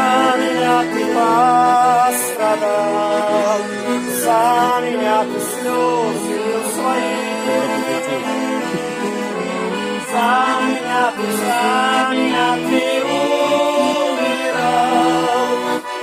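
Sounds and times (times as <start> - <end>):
accordion playing a hymn: 0.0 - 16.0.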